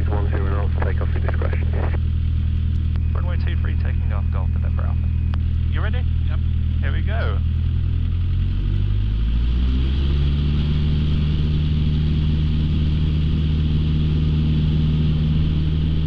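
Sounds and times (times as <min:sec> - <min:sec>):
light aircraft engine revving up: 0:00.0 - 0:16.0.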